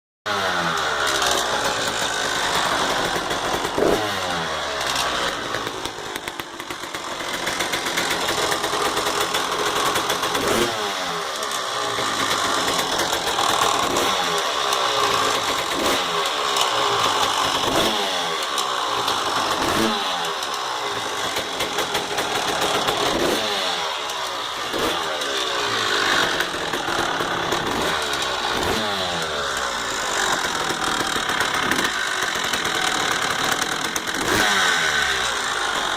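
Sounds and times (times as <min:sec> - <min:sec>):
motorcycle engine revving: 0:00.3 - 0:35.9
rattle: 0:00.6 - 0:35.9.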